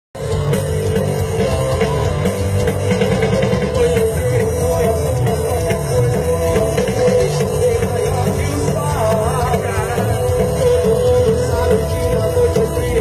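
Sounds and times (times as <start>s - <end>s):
rock music with drums: 0.1s - 13.0s.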